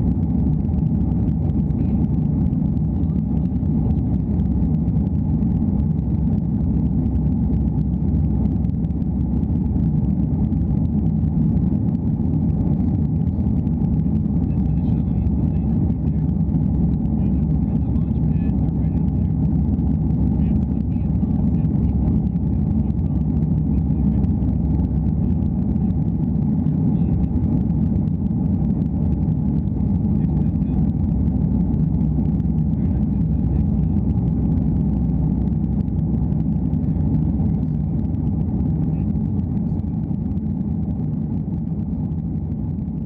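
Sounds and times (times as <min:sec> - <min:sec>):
airliner cabin engine rumble: 0:00.0 - 0:43.0.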